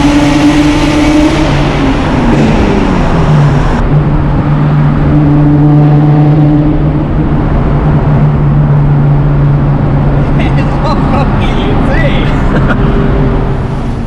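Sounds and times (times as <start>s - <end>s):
car exhaust droning: 0.0s - 14.0s.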